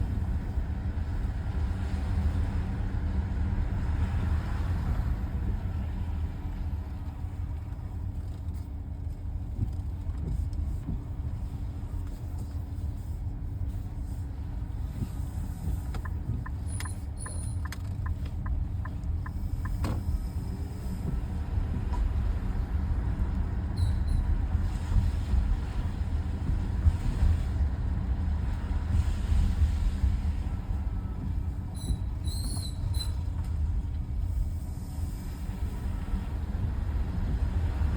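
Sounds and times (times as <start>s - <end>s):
road rumble in car cabin: 0.0s - 37.9s.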